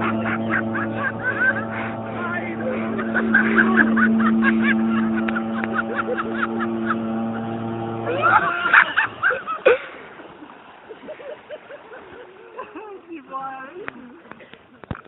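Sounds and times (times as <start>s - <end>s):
jet ski engine droning: 0.0s - 13.1s.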